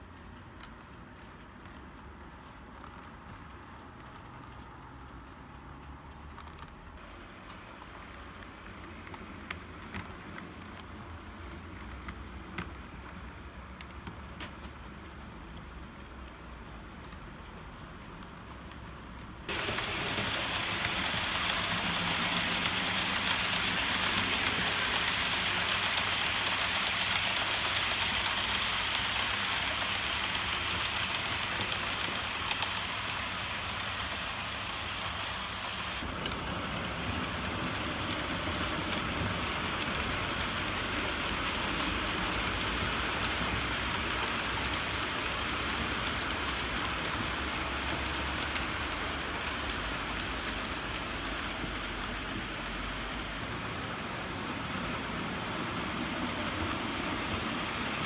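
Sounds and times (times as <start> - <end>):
model train wheels on rails: 0.0 - 58.0.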